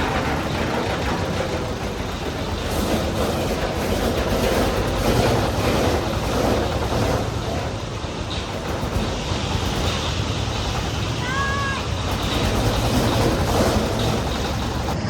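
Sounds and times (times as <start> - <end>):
concrete mixer rumbling: 0.0 - 15.0.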